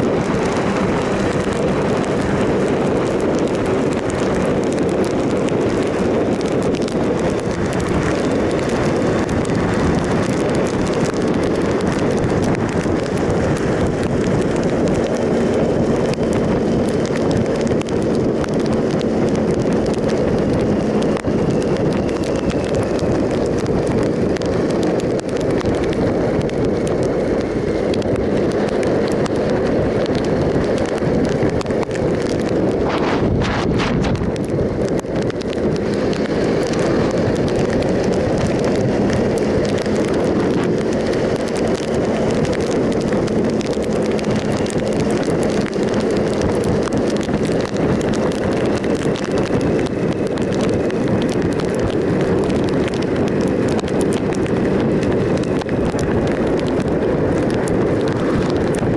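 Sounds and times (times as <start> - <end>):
motorcycle engine humming: 0.0 - 58.9
wind rushing over microphone: 0.0 - 58.9.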